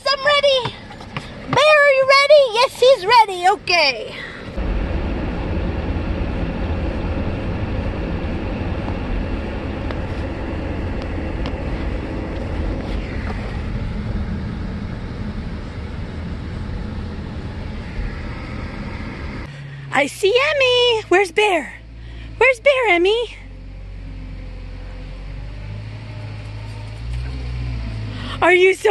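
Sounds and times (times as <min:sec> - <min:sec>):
road noise inside a vehicle: 0:00.0 - 0:28.9.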